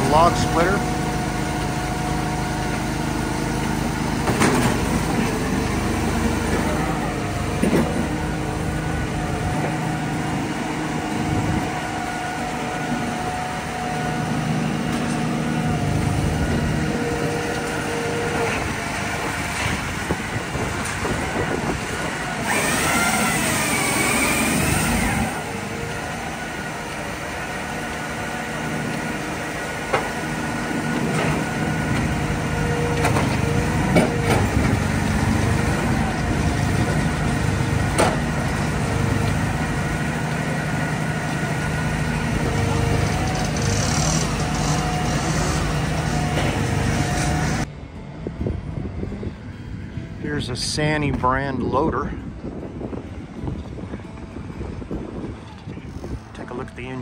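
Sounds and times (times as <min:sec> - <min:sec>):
firewood processor humming: 0:00.0 - 0:48.0.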